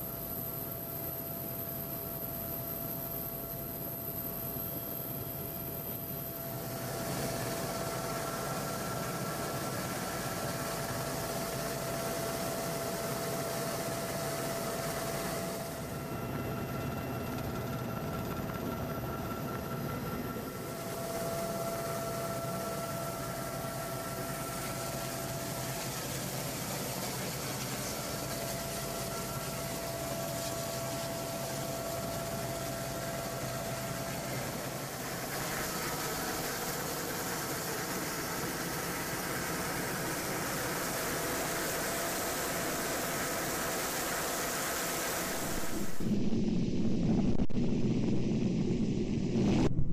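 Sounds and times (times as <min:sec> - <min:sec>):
helicopter engine and rotor: 0:00.0 - 0:46.2
thin constant whine: 0:00.0 - 0:49.9.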